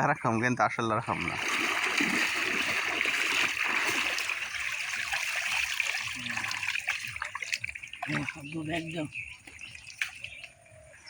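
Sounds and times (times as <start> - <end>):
river water splashing: 1.0 - 10.6.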